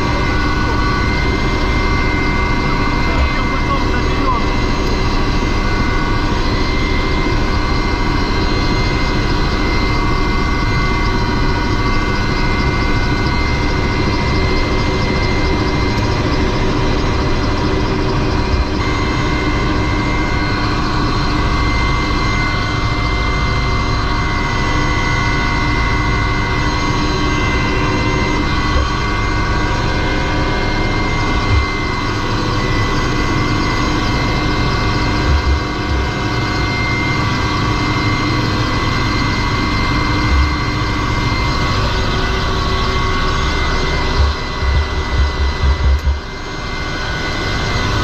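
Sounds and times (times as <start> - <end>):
helicopter turbine and rotor: 0.0 - 48.0.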